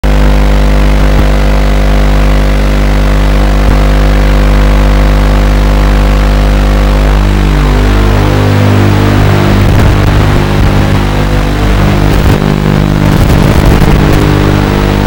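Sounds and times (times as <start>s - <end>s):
quadcopter motors humming: 0.0s - 15.0s.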